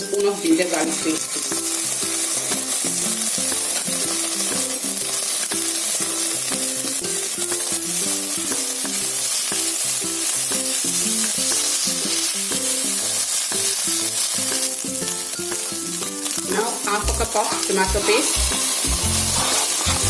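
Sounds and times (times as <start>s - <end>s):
food sizzling in hot oil: 0.0s - 20.0s
stirring in a wok: 0.0s - 20.0s.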